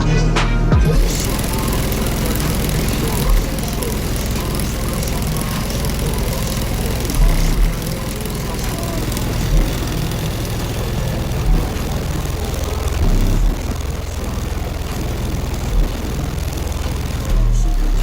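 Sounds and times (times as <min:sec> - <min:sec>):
bass-heavy music from subwoofers: 0:00.0 - 0:18.0.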